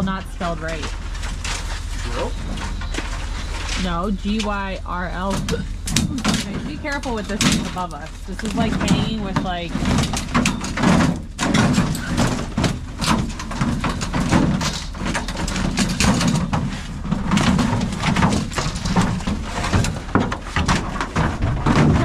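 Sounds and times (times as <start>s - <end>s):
items knocking and clattering: 0.0s - 22.0s.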